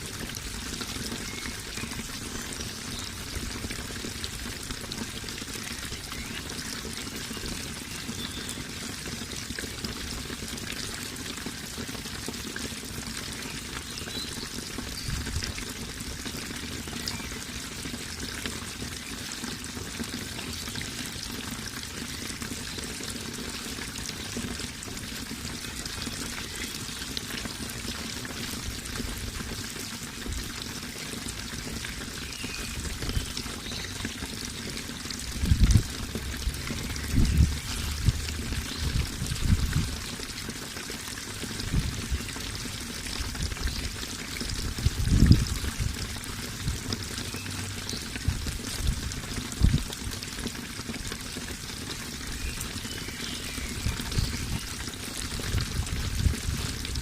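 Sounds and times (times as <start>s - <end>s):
water pouring and trickling: 0.0s - 57.0s.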